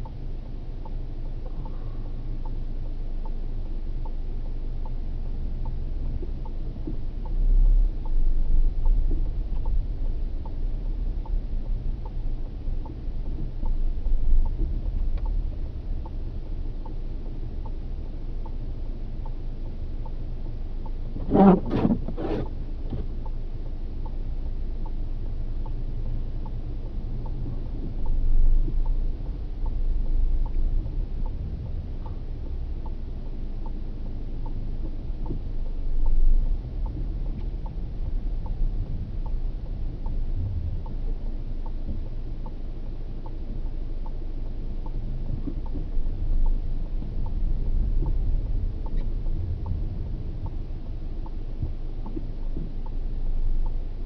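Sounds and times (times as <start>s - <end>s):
car engine and road rumble: 0.0s - 54.0s
steady ticking: 0.0s - 54.0s.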